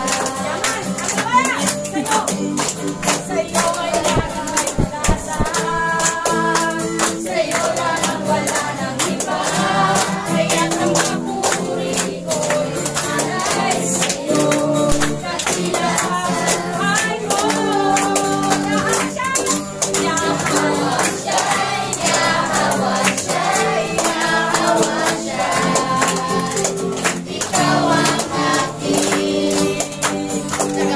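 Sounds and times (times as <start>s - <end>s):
accompanying music: 0.0s - 30.9s
congregation singing: 0.0s - 30.9s
hand clapping in time: 0.0s - 30.9s.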